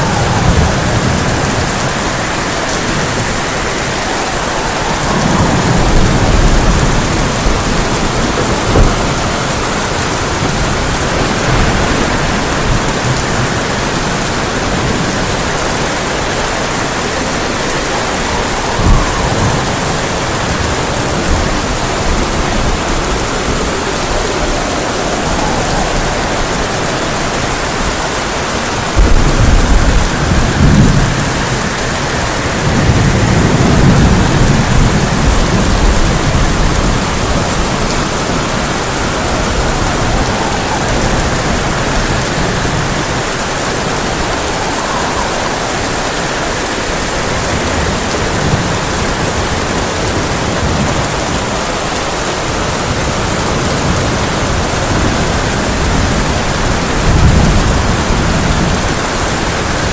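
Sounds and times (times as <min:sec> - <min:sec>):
heavy rain on tin roof: 0:00.0 - 0:59.9
thunder rumbling: 0:00.0 - 0:59.9.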